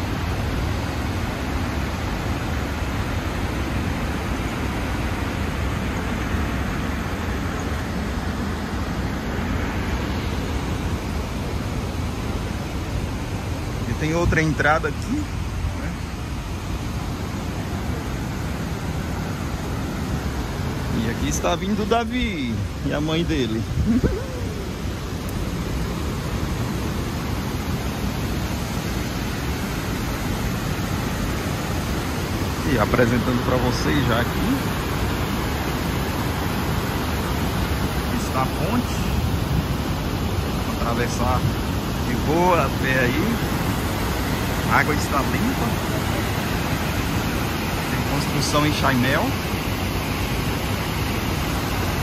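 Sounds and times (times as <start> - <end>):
river cascades rushing: 0.0 - 52.0.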